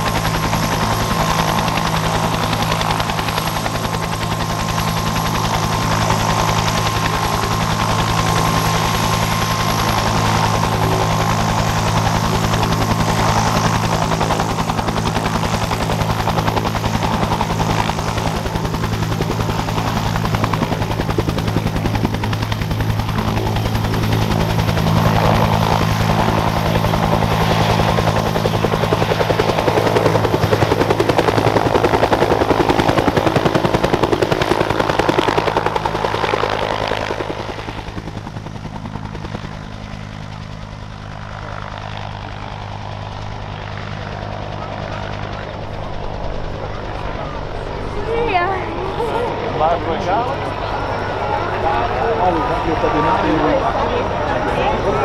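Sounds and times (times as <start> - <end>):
helicopter rotor beating: 0.0 - 55.0
helicopter turbine whine: 0.0 - 55.0.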